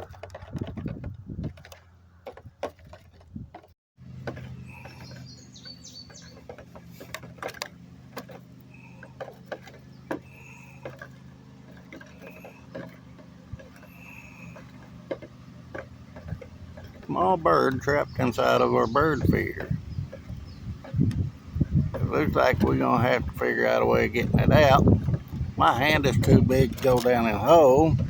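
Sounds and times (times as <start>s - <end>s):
steady low hum: 3.4s - 28.0s.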